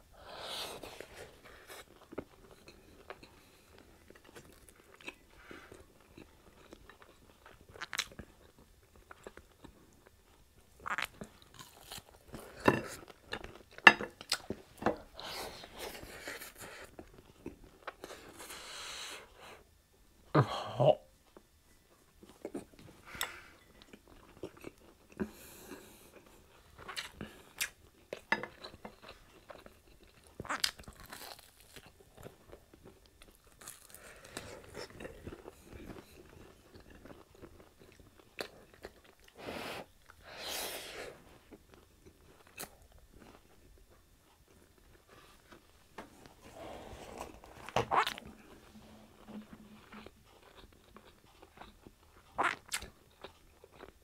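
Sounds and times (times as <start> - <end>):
chewing with crunches: 0.8 - 18.6, 21.3 - 40.2, 41.2 - 54.0.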